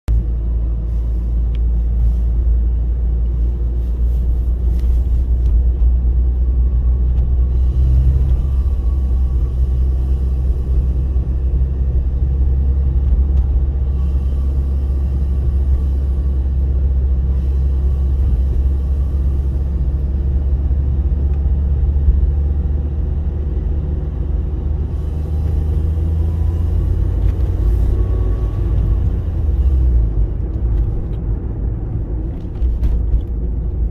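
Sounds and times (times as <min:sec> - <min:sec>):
car engine running: 0:00.0 - 0:33.9
faint engine whine: 0:00.0 - 0:33.9.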